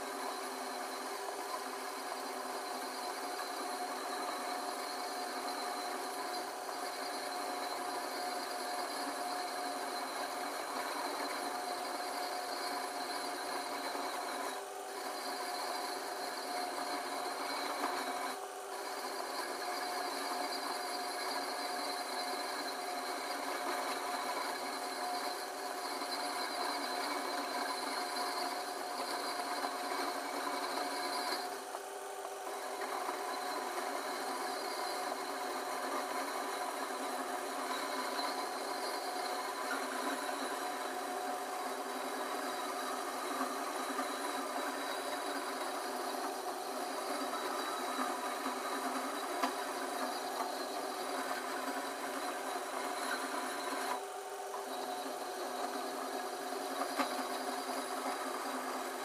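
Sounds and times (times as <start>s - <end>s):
file grinding spinning pipe: 0.0s - 59.0s
metal lathe whining: 0.0s - 59.0s.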